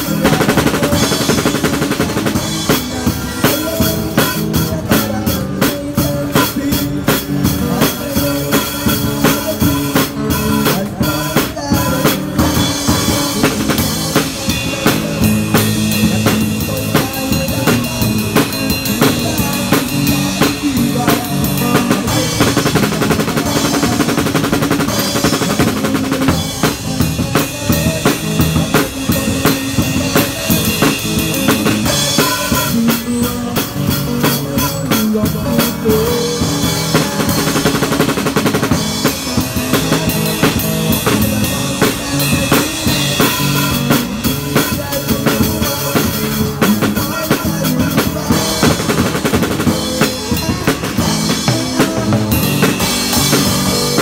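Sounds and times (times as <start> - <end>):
drum kit playing: 0.0 - 54.0
electric guitar through amplifier: 0.0 - 54.0.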